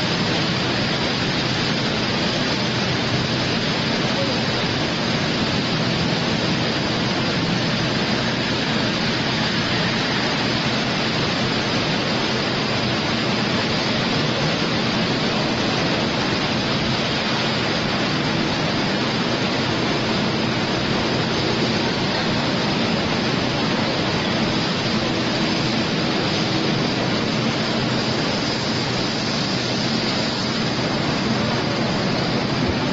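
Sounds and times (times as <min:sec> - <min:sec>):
even industrial hiss: 0:00.0 - 0:32.9.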